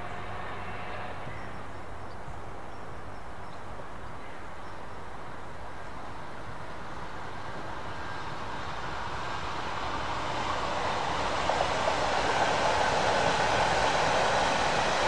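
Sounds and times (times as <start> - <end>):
freight train running: 0.0 - 15.0.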